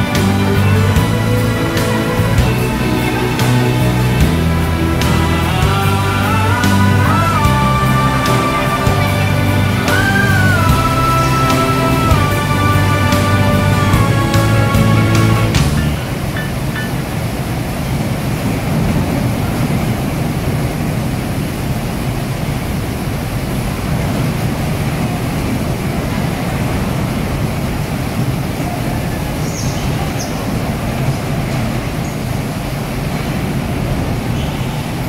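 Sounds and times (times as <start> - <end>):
bumper cars rumbling: 0.0 - 35.0.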